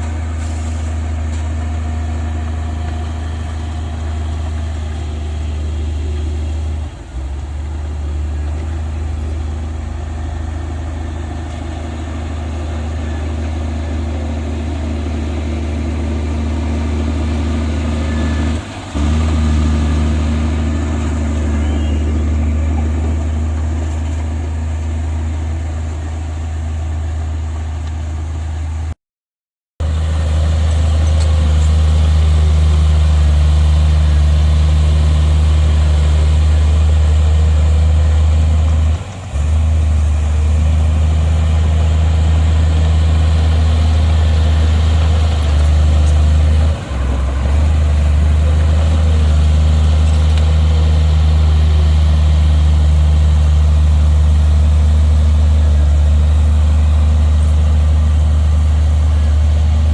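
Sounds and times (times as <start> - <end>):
heavy diesel machinery droning: 0.0 - 29.0, 29.8 - 59.9.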